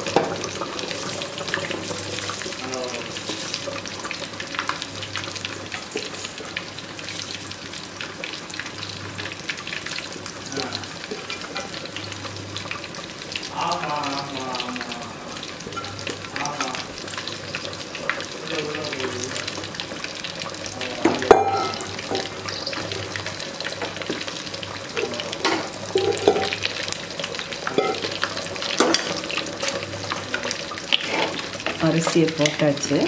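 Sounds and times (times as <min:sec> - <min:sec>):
stock boiling and bubbling: 0:00.0 - 0:33.0.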